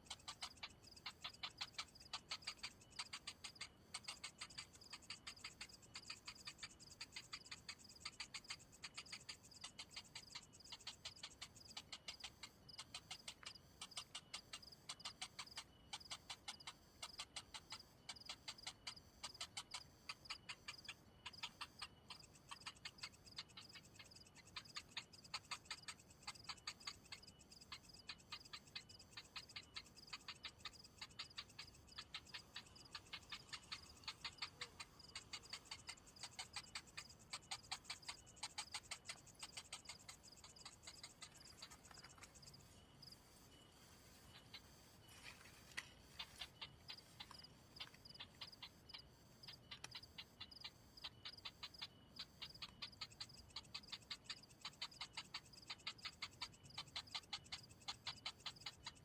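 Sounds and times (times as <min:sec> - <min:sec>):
chick ticking calls: 0:00.0 - 0:59.0.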